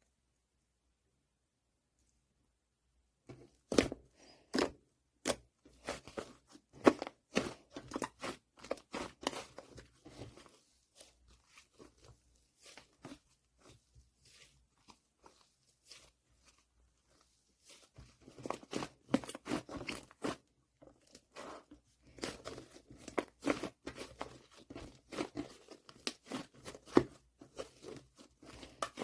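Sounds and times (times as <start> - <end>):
slime crackling and squishing: 3.6 - 29.0.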